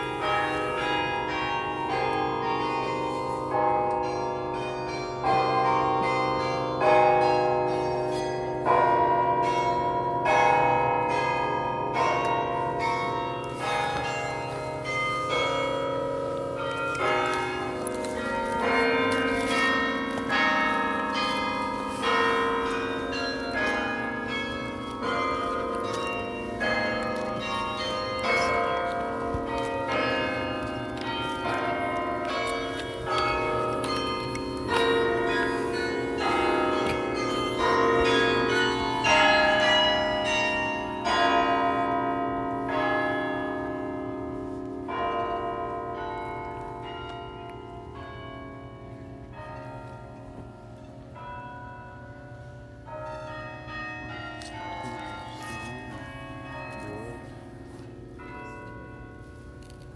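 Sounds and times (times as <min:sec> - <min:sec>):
carillon bells playing a melody: 0:00.0 - 0:44.1, 0:44.9 - 0:59.6.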